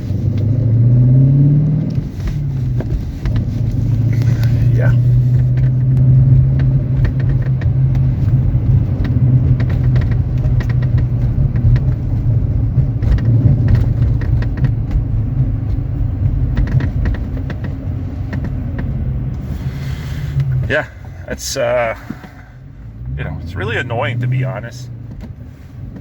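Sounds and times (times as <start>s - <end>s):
car engine and road drone: 0.0s - 26.0s
car seat creaking and clicking: 0.0s - 26.0s.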